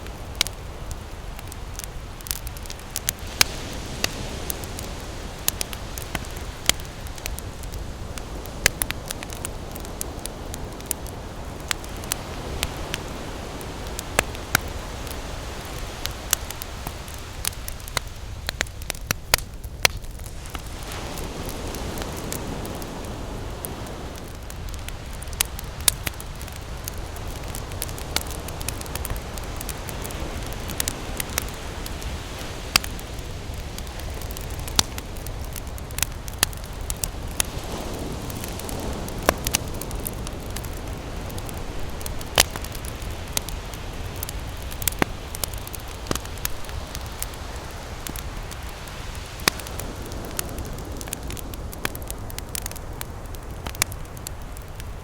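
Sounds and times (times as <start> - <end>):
campfire crackling and popping: 0.0 - 55.0
ocean waves rushing: 0.1 - 17.9, 20.2 - 52.6.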